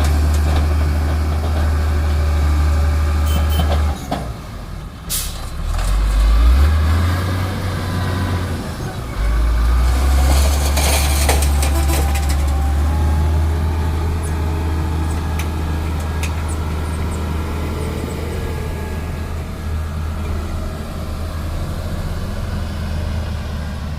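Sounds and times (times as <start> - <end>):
diesel engine rumbling: 0.0 - 23.9.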